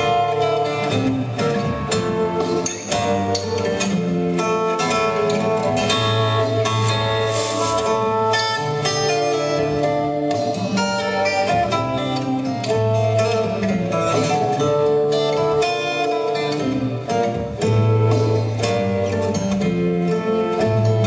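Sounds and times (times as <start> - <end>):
instrumental music with bass line: 0.0 - 21.0.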